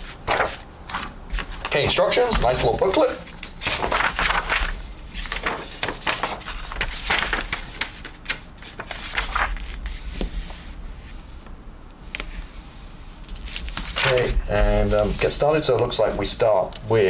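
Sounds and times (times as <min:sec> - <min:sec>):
paper pages rustling: 0:00.0 - 0:11.4, 0:13.2 - 0:17.0.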